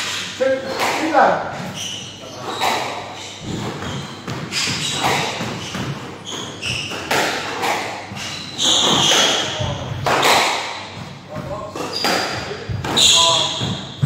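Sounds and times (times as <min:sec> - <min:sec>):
court shoes squeaking: 0:00.0 - 0:14.0
squash ball hits: 0:02.6 - 0:14.0.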